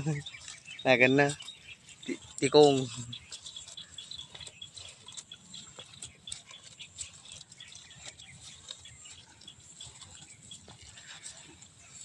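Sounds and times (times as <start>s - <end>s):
cow chewing grass: 0.0s - 12.0s.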